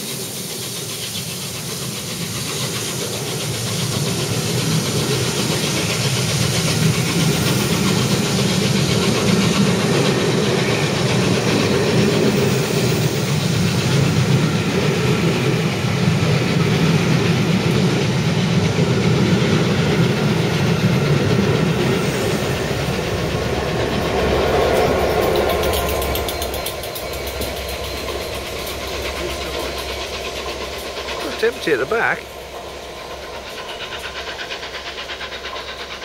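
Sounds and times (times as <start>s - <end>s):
diesel locomotive engine hum: 0.0s - 36.0s
train wheels clattering on rails: 0.0s - 36.0s.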